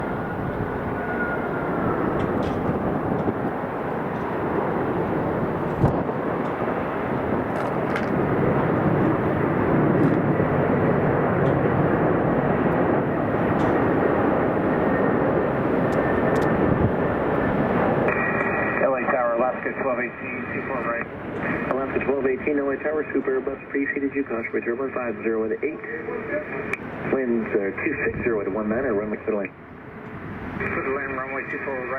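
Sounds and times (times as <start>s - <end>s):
faint jet whine: 0.0s - 31.9s
jet engine roar: 0.0s - 31.9s.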